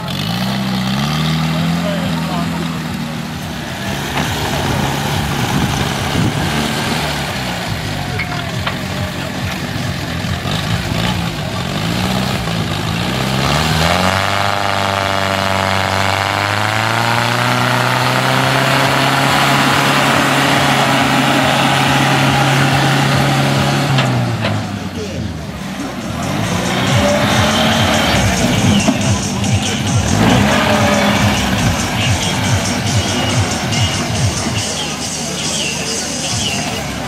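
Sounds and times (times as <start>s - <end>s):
small tractor engines running: 0.0s - 37.0s
tractor engine revving: 0.0s - 37.0s.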